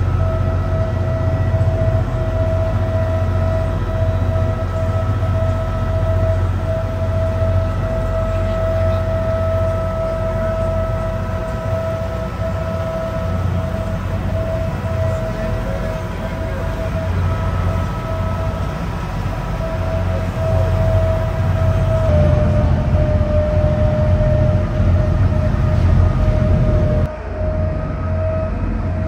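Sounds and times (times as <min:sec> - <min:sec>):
boat engine drone: 0:00.0 - 0:29.0
steady engine whine: 0:00.0 - 0:29.0.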